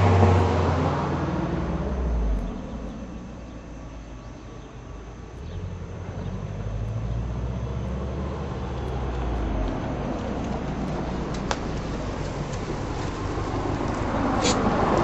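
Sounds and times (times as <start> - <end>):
car exhaust low rumble: 0.0 - 15.0.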